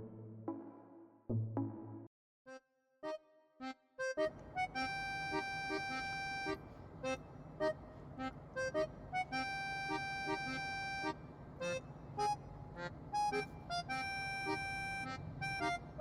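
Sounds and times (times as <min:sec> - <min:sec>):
accordion chord: 0:02.5 - 0:16.0.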